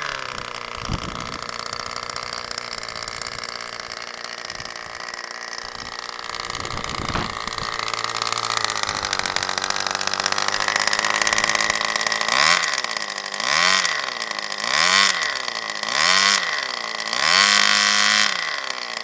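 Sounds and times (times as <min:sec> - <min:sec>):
model engine idling and revving: 0:00.0 - 0:19.0.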